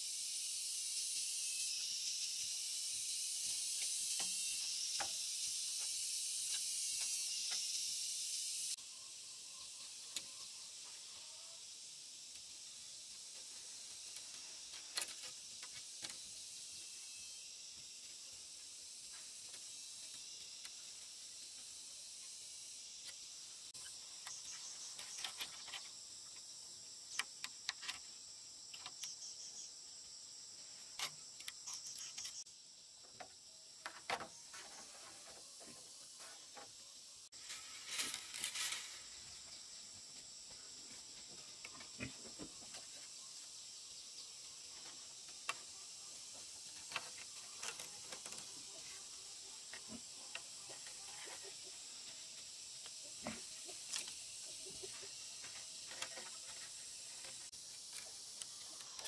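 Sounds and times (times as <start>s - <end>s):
insect chorus: 0.0s - 59.0s.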